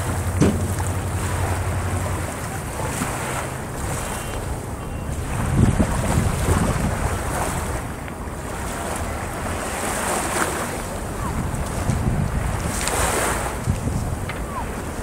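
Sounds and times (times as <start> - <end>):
small waves breaking on shore: 0.0 - 15.0
wind buffeting microphone: 0.0 - 15.0.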